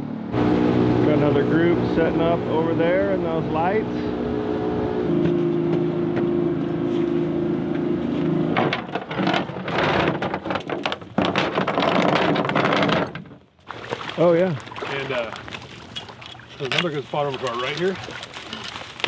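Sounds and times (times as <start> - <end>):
boat motor humming: 0.0 - 12.0, 13.6 - 19.0
rough crackling and rumbling: 0.3 - 5.5, 8.5 - 19.0.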